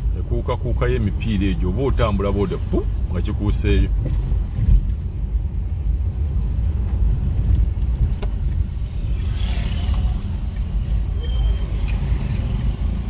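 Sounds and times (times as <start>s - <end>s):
car driving on dirt road: 0.0s - 13.0s.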